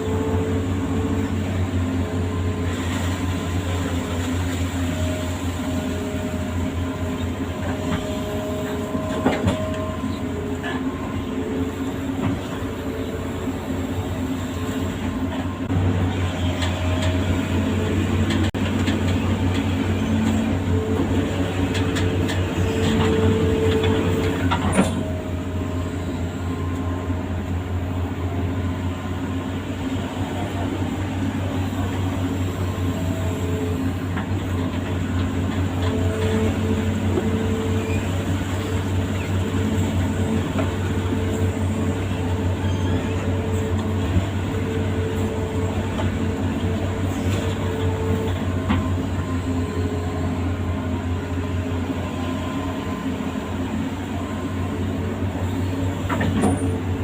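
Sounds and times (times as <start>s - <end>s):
diesel engine droning: 0.0s - 57.0s
whining hydraulics: 0.0s - 57.0s.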